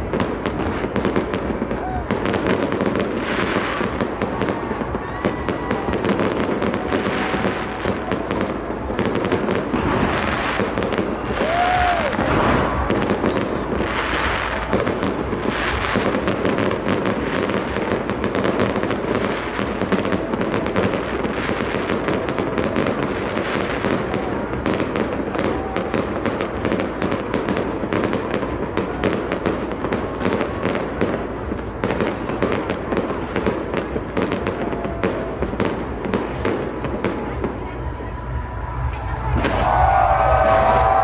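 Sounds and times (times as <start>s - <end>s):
firework whistle: 0.0s - 41.0s
fireworks bangs and crackles: 0.0s - 41.0s.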